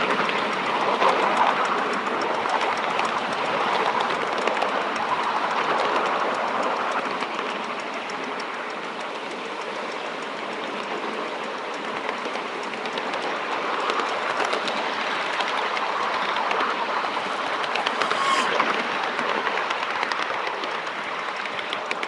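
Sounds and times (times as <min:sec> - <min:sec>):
clicks over rail joints: 0:00.0 - 0:22.0
train wheels rumbling on rail: 0:00.0 - 0:22.0.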